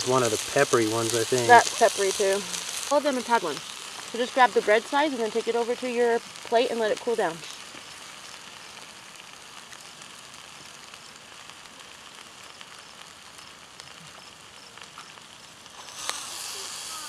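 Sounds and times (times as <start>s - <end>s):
fire crackles: 0.0s - 17.0s
food sizzling in frying pan: 0.0s - 17.0s.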